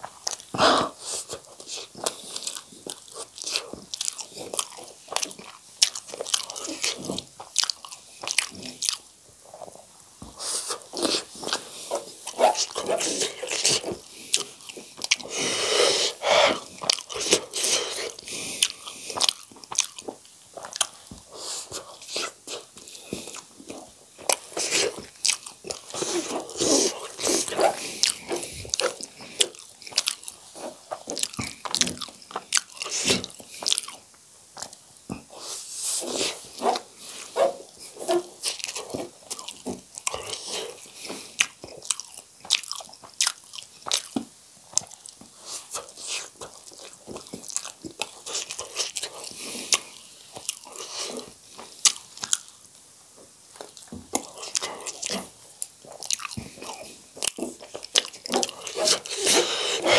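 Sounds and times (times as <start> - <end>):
chewing and biting food: 0.2 - 0.6, 1.2 - 15.5, 16.4 - 52.6, 53.5 - 59.9.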